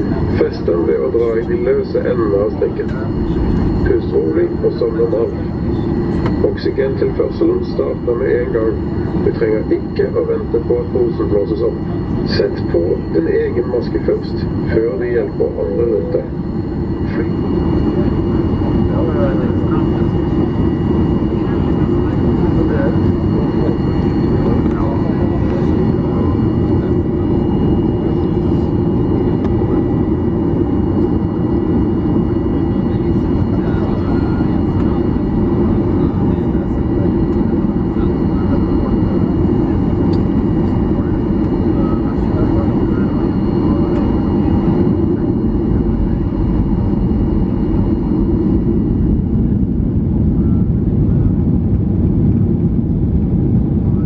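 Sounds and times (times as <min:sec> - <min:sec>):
airplane cabin rumble: 0:00.0 - 0:54.0
faint high engine whines: 0:00.0 - 0:54.0.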